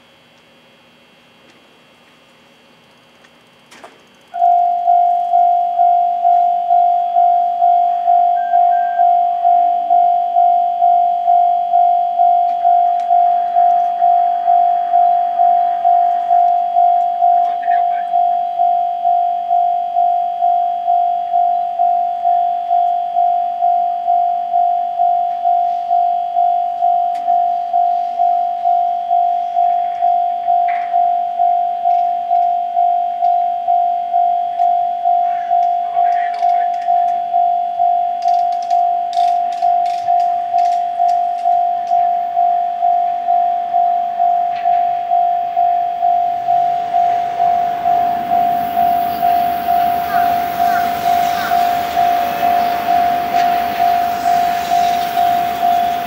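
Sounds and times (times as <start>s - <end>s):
diesel locomotive engine and wheels: 0.0s - 56.0s
level crossing alarm bell dinging: 4.4s - 56.0s.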